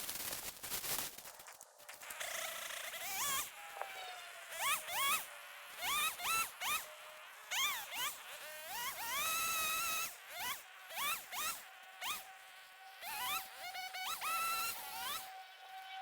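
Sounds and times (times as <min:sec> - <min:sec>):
power saw motor whining: 0:02.1 - 0:16.0.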